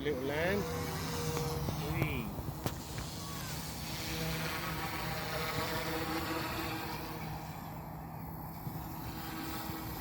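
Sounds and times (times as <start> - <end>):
helicopter motor and rotor whine: 0.0 - 10.0.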